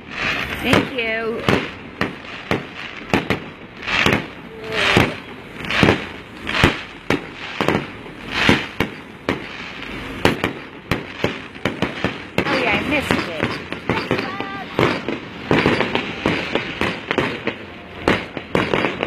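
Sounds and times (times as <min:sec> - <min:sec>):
fireworks cracks and bangs: 0:00.0 - 0:19.0.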